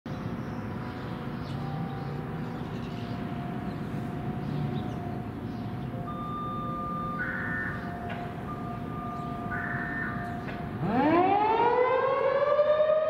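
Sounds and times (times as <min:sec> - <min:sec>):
city traffic rumble: 0:00.1 - 0:13.0
distant warning sirens: 0:00.2 - 0:13.0.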